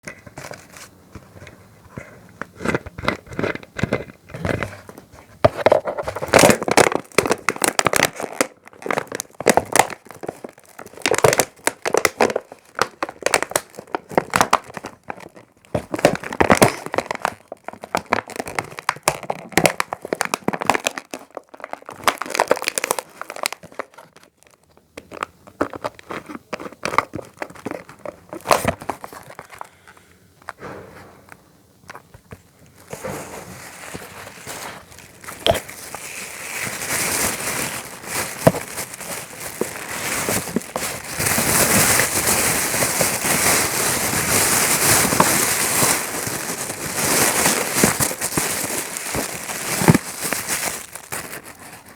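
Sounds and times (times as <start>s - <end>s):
packaging crumpling and crinkling: 0.1s - 30.1s, 31.9s - 51.9s.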